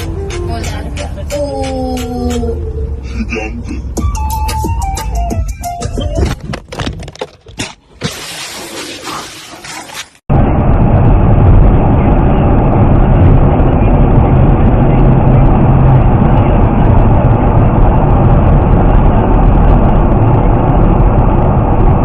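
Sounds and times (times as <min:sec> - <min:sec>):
vehicle road and engine rumble: 0:00.0 - 0:08.0, 0:10.2 - 0:22.0.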